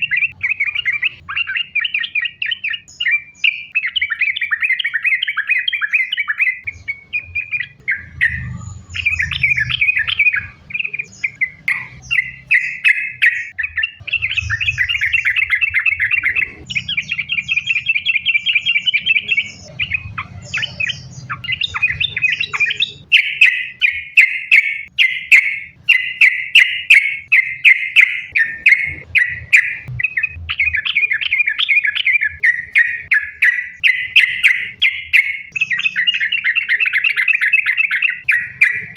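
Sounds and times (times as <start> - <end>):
bird singing chattering phrases: 0.0 - 38.9.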